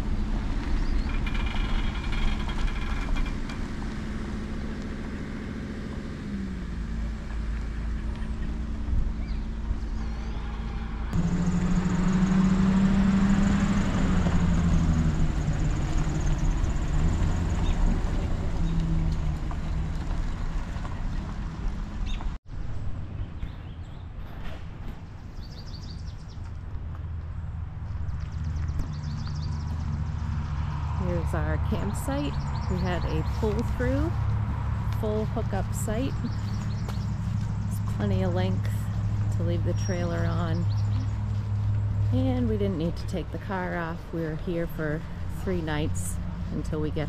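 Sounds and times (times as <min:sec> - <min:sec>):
louder vehicle engine passing: 0:00.0 - 0:47.0
truck engine passing: 0:00.0 - 0:47.0.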